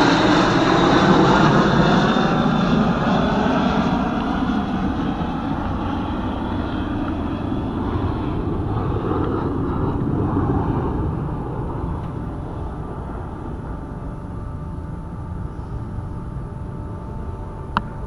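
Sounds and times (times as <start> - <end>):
jet aircraft roaring overhead: 0.0 - 18.0.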